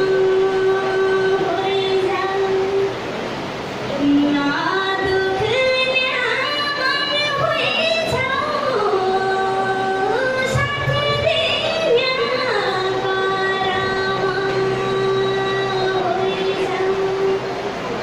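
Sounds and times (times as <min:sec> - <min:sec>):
woman singing folk tune: 0:00.0 - 0:03.0, 0:03.9 - 0:17.7.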